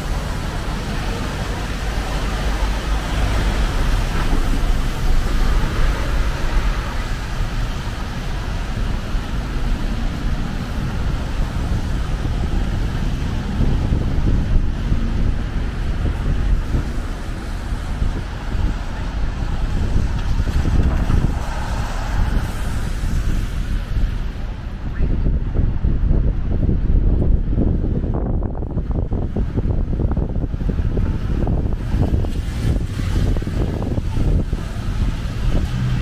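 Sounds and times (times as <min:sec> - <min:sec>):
traffic running steadily: 0:00.0 - 0:36.0
wind rumble on microphone: 0:00.0 - 0:36.0.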